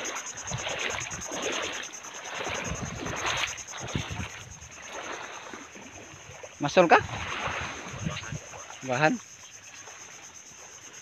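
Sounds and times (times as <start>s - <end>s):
footsteps wading through water: 0.0s - 10.9s.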